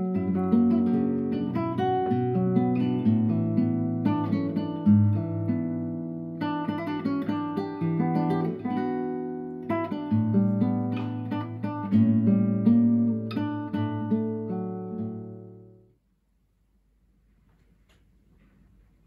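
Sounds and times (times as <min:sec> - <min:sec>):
acoustic guitar melody: 0:00.0 - 0:16.0.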